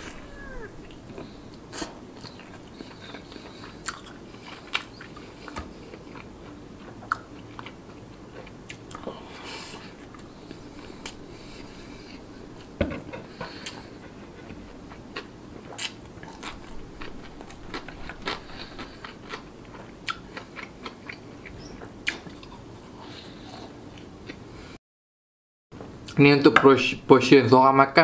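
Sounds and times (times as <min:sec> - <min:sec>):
person chewing food: 0:00.0 - 0:24.6.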